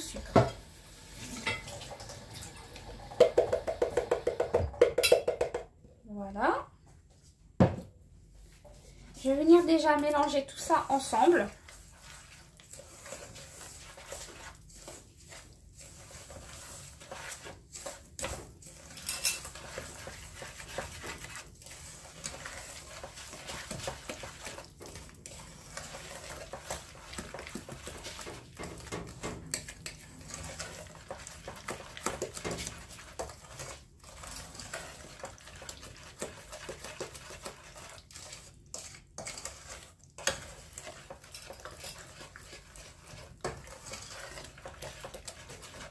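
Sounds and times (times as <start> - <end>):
utensil scraping a saucepan: 0.0 - 4.4, 8.8 - 45.9.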